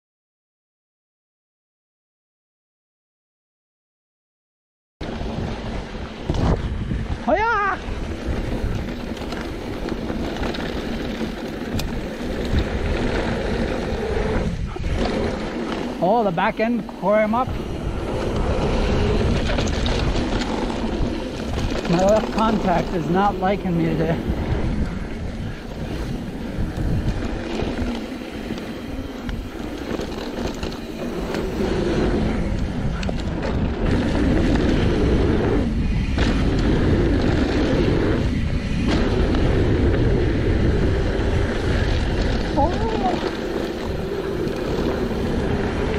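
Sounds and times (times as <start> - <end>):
bike clicks and rattles: 5.0 - 45.9
bike tyres rumbling on dirt: 5.0 - 45.9
wind noise on microphone: 5.0 - 45.9.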